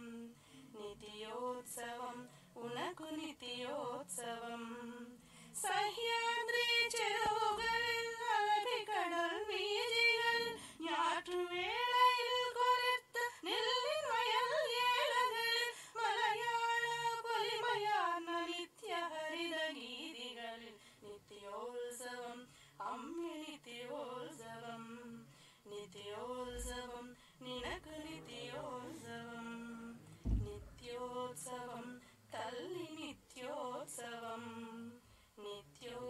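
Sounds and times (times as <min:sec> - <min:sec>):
woman singing unaccompanied: 0:00.0 - 0:36.0.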